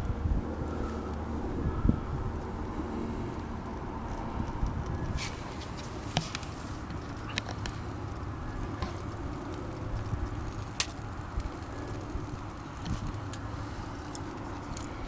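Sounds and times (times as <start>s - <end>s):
fire crackling and snapping: 0.0s - 15.0s
low rumble of wind: 0.0s - 15.0s.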